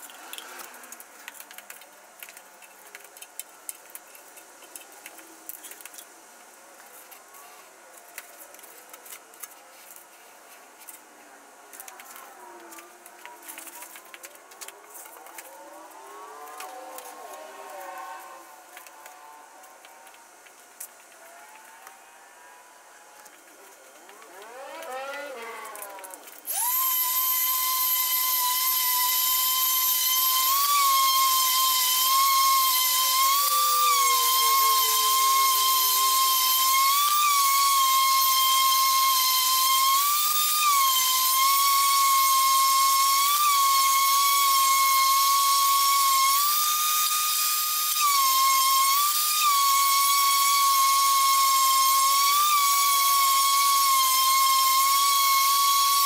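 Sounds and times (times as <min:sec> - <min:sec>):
small motor high-pitched whine: 0:00.0 - 0:56.0.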